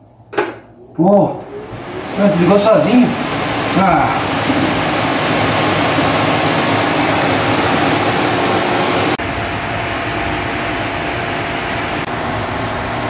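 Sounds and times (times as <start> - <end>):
electric fan rushing air: 0.0 - 13.0
faint motor hum: 0.0 - 13.0.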